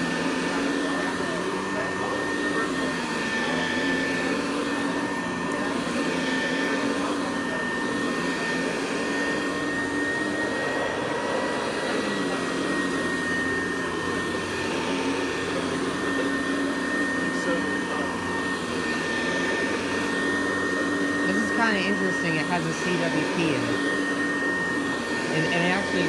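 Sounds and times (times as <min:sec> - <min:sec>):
upright vacuum cleaner running: 0:00.0 - 0:26.0.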